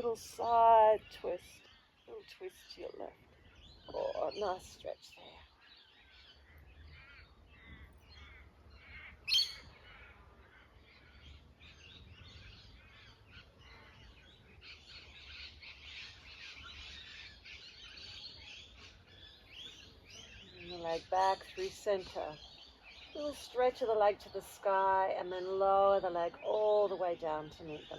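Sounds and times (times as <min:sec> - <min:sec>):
birds chirping and singing: 0:00.0 - 0:27.9.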